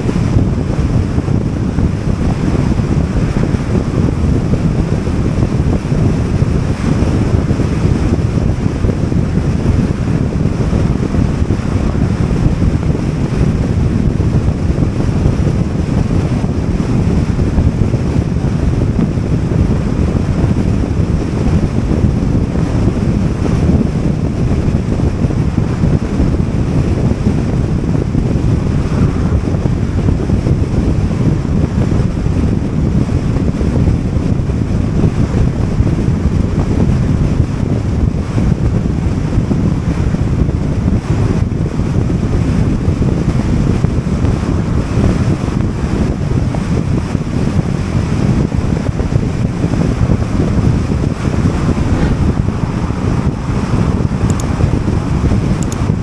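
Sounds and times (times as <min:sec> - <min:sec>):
road rumble: 0:00.0 - 0:33.4, 0:42.4 - 0:56.0
car wind rush: 0:00.0 - 0:56.0
wind buffeting microphone: 0:00.0 - 0:56.0.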